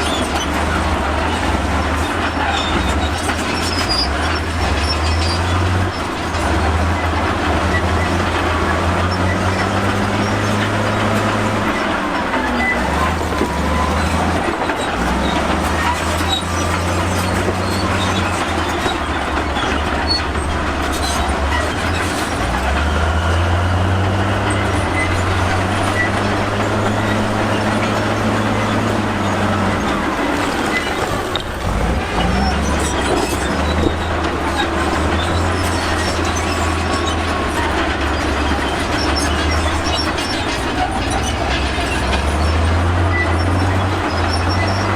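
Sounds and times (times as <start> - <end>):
bulldozer diesel engine under load: 0.0 - 44.9
steel tracks clanking and squeaking: 0.0 - 44.9.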